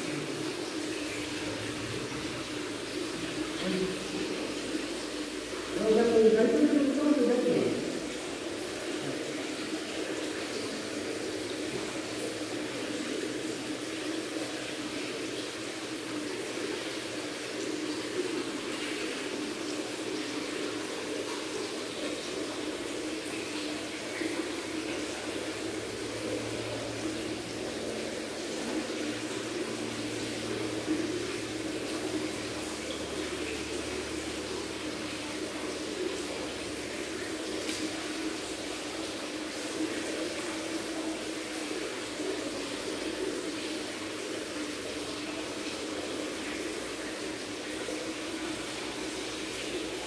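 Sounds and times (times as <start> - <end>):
aquarium filter bubbling: 0.0 - 50.0.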